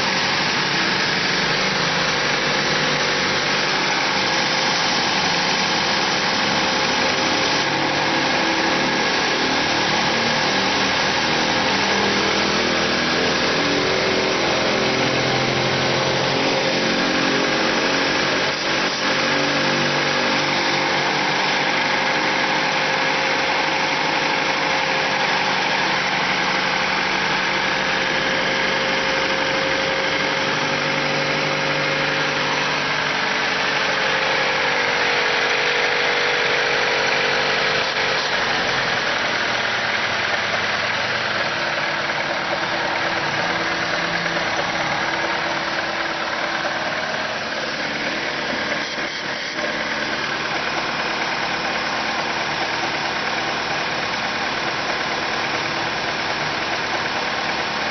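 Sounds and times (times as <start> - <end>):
steady whine: 0.0 - 57.8
car engine idling: 0.0 - 57.9.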